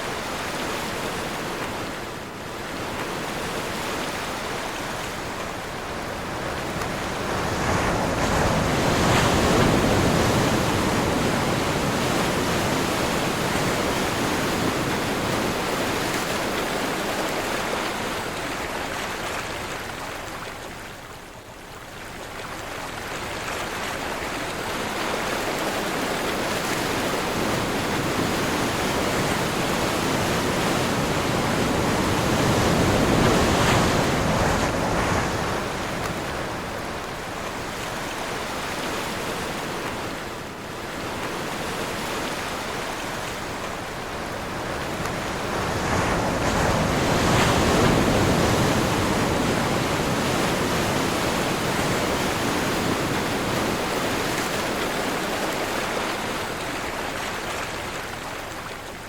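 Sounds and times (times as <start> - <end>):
strong wind: 0.0 - 18.0, 25.8 - 57.0
ocean waves breaking: 0.0 - 21.4, 22.2 - 59.0.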